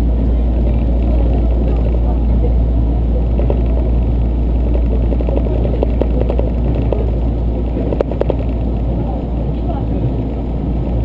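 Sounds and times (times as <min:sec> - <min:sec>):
train rumbling inside passenger car: 0:00.0 - 0:11.0.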